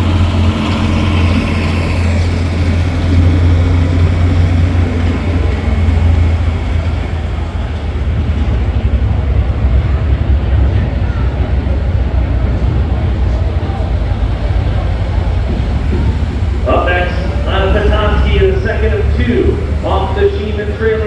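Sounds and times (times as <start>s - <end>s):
big engine rumbling: 0.0s - 21.0s.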